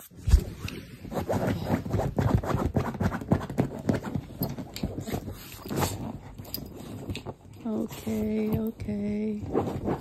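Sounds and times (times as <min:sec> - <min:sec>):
dog rubbing against blanket: 0:00.1 - 0:10.0.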